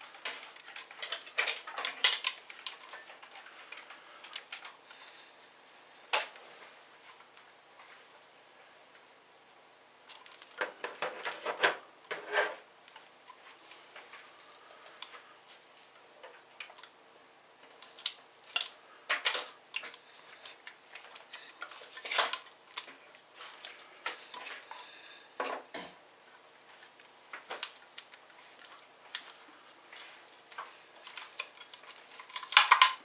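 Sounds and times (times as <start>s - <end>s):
clicks and scrapes of small parts: 0.1s - 5.2s, 10.1s - 17.0s, 17.6s - 25.6s, 26.3s - 33.0s.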